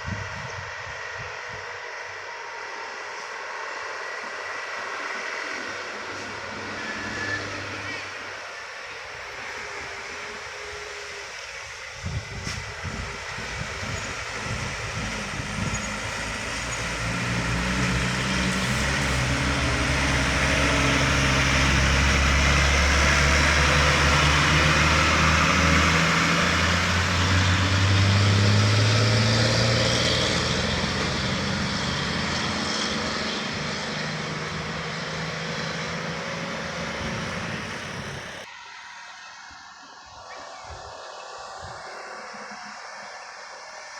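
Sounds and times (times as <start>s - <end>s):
heavy diesel vehicle passing: 0.0s - 38.5s.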